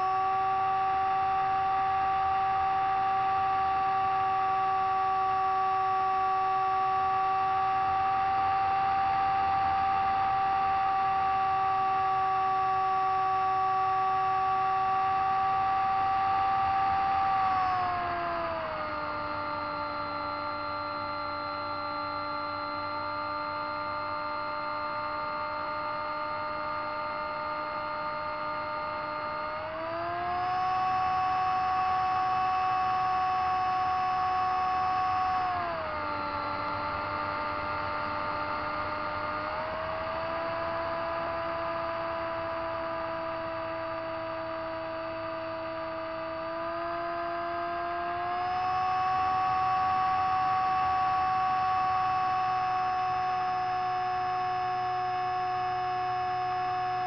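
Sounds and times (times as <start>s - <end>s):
model plane motor whining: 0.0s - 57.0s.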